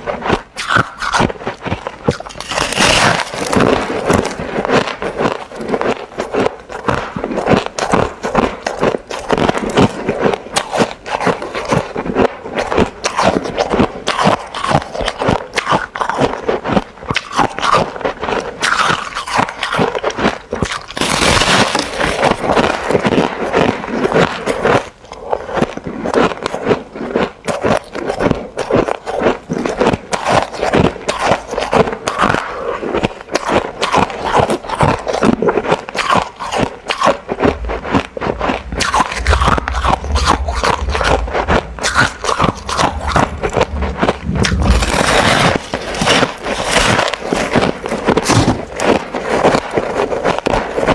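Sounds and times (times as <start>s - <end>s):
person chewing ice: 0.0s - 50.9s.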